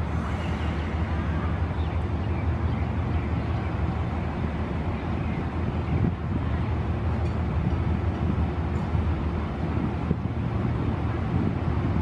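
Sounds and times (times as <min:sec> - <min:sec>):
diesel train rolling past: 0:00.0 - 0:12.0.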